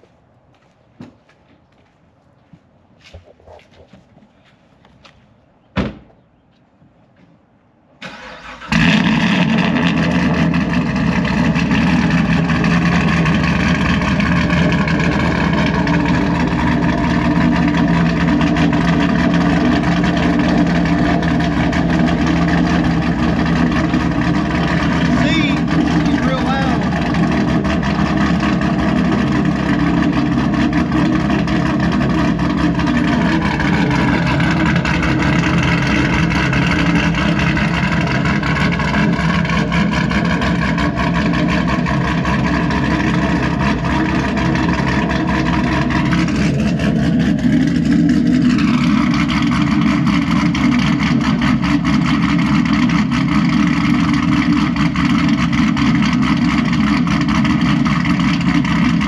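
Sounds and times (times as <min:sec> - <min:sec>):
car engine idling: 0:07.6 - 0:59.0.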